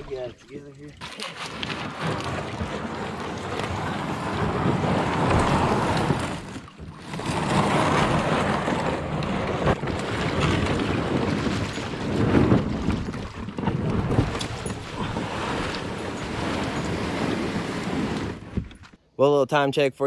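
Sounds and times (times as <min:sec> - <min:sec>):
kayak hull scraping over gravel: 0:00.0 - 0:19.0.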